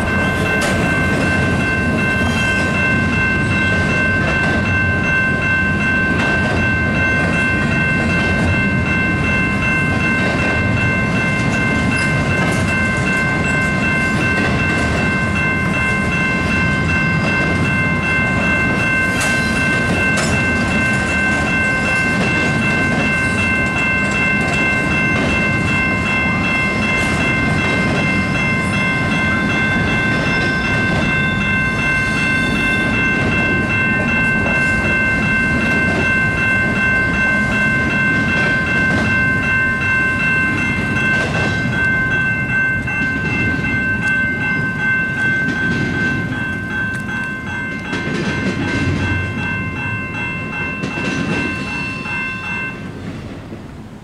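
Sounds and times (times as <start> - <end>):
crossing warning bell ringing: 0.0 - 54.0
freight train rumbling past: 0.0 - 54.0.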